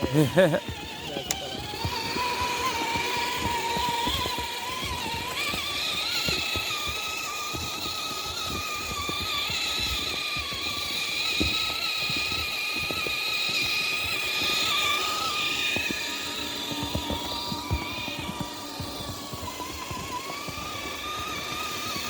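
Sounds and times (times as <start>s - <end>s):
crunching clicks: 0.0s - 22.0s
electric motor whining: 0.0s - 22.0s.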